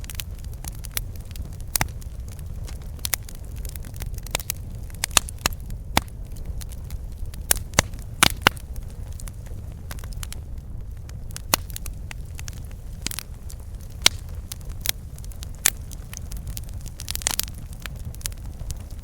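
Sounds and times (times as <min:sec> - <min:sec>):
campfire crackling and popping: 0:00.0 - 0:19.0
low rumble of burning fire: 0:00.0 - 0:19.0.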